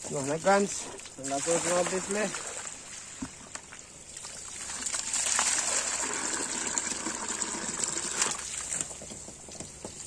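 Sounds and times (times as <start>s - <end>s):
water gushing onto paving: 0.0s - 10.0s.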